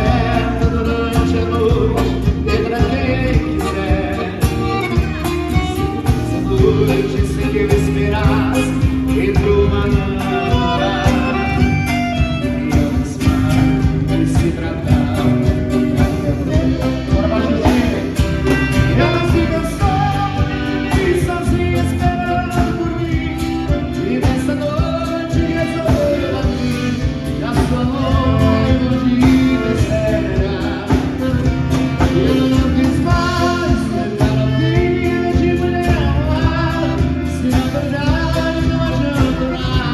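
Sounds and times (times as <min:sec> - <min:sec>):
song with band and singing: 0:00.0 - 0:39.9.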